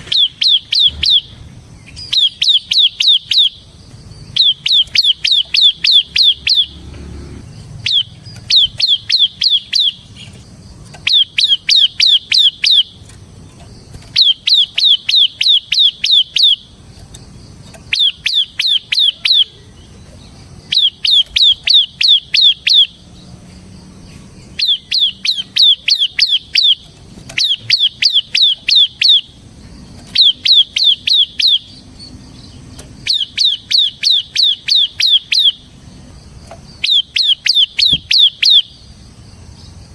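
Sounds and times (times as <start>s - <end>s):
bird singing rapid descending notes: 0.0s - 39.9s.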